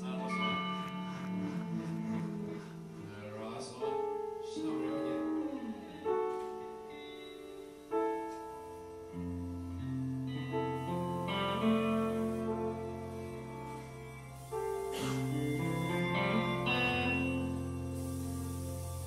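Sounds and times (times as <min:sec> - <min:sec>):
electric guitar chords: 0:00.0 - 0:19.0
piano chords: 0:00.0 - 0:19.0.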